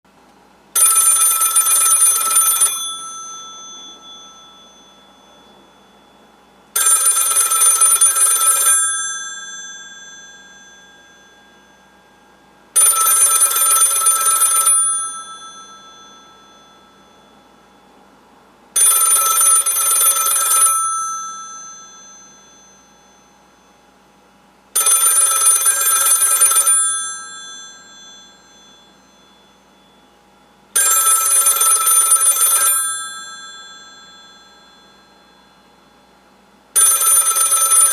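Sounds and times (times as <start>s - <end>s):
telephone bell ringing: 0.7s - 37.9s.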